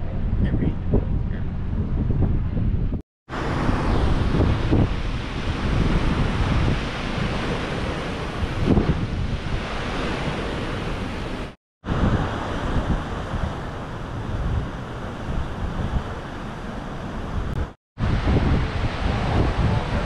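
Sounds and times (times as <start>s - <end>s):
wind buffeting microphone: 0.0s - 20.0s
sea water rushing: 3.3s - 20.0s.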